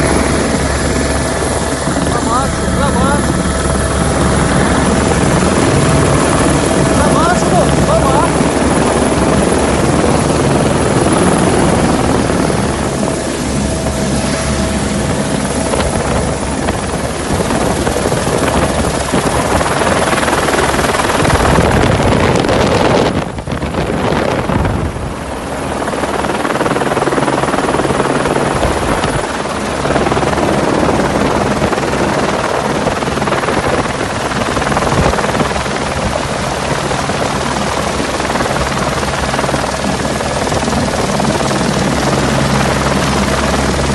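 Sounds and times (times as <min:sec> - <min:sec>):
helicopter hovering overhead: 0:00.0 - 0:43.9.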